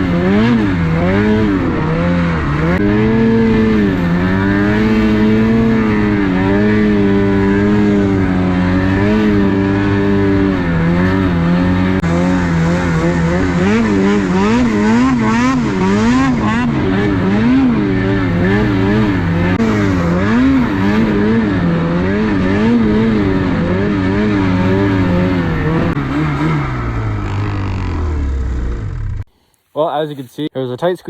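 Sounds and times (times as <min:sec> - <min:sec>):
snowmobile engine revving: 0:00.0 - 0:29.3.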